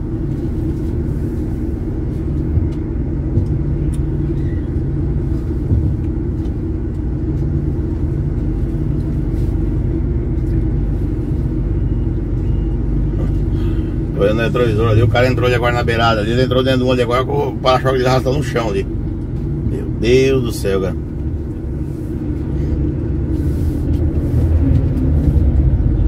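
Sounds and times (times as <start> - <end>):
truck diesel engine rumble: 0.0 - 26.0.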